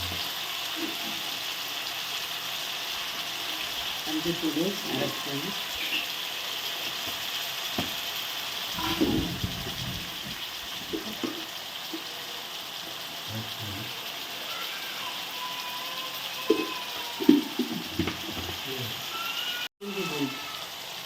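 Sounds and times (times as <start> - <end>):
masala sizzling in oil: 0.0 - 21.0.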